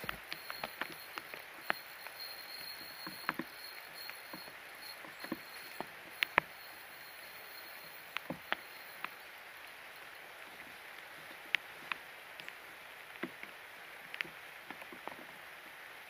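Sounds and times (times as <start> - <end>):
raindrops tapping close by: 0.0 - 16.0
steady rain: 0.0 - 16.0.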